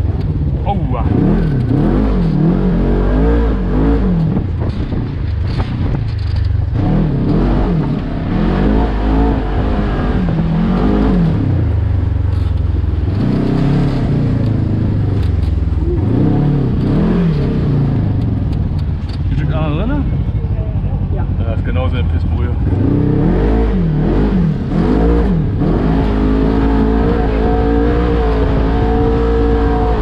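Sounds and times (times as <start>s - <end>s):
buggy engine revving: 0.0s - 30.0s.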